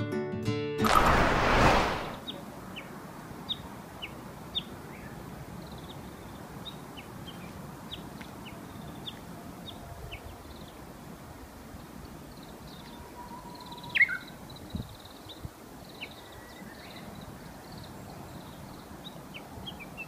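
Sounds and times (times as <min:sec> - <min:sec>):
small songbirds chirping: 0:02.2 - 0:20.0.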